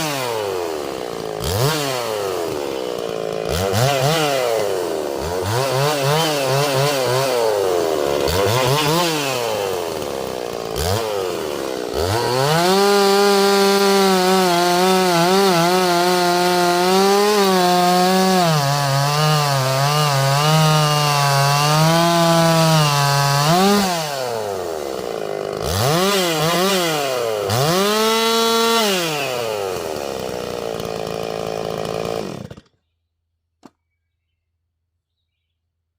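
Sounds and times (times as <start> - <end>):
chainsaw revving and cutting wood: 0.0 - 32.8.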